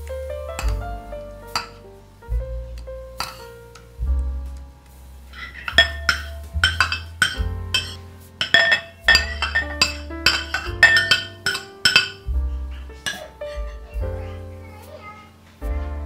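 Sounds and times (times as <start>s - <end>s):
bass line: 0.0s - 14.7s, 15.6s - 16.0s.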